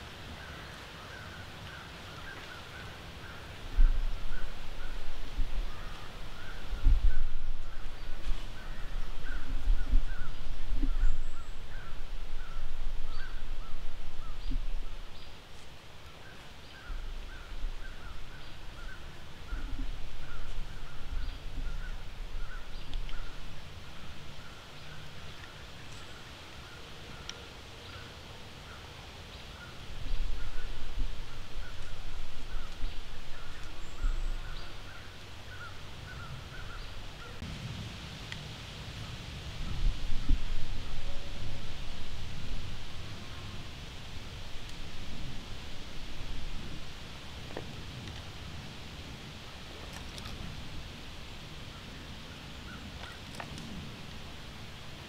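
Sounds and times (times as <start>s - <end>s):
low rumbling microphone noise: 3.2s - 26.2s, 29.6s - 55.0s.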